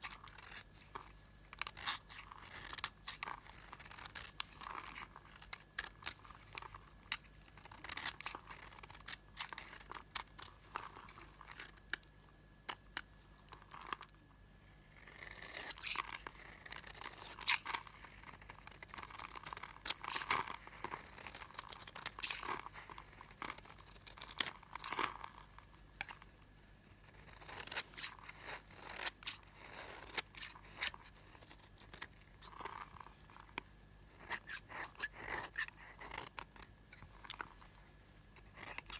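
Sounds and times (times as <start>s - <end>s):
knife cutting soap crunching: 0.0s - 14.2s, 15.0s - 26.3s, 26.9s - 37.7s, 38.3s - 38.9s.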